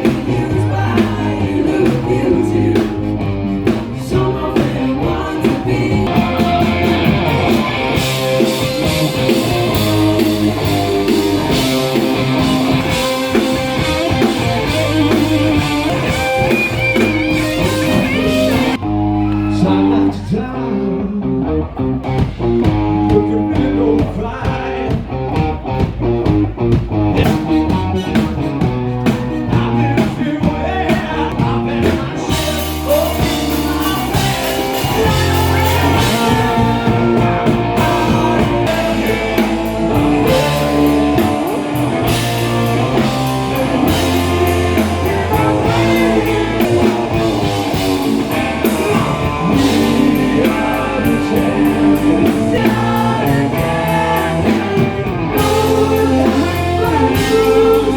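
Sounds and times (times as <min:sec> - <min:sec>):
person singing: 0:00.0 - 0:21.6, 0:22.6 - 0:25.1, 0:27.2 - 0:57.9
live blues-rock band playing: 0:00.0 - 0:57.9.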